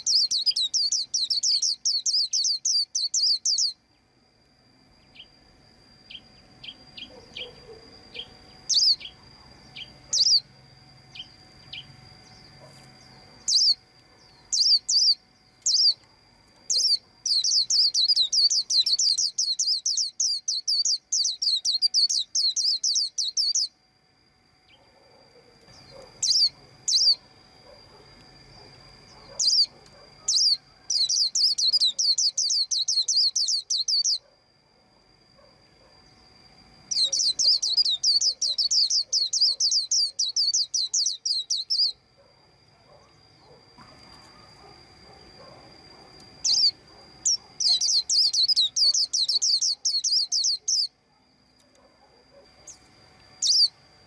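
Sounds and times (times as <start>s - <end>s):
bird chirping in high runs: 0.0s - 4.2s, 4.9s - 23.8s, 24.6s - 34.3s, 35.4s - 51.0s, 52.3s - 54.0s.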